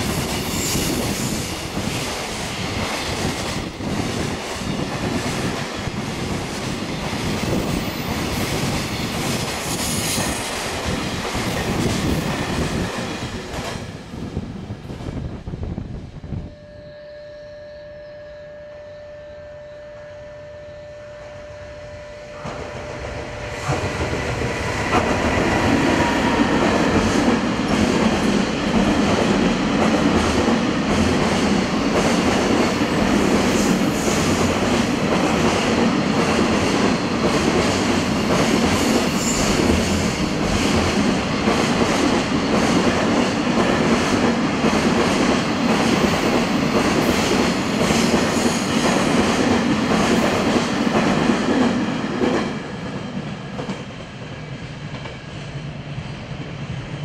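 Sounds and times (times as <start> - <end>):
freight train rumbling past: 0.0 - 16.6, 21.4 - 57.0.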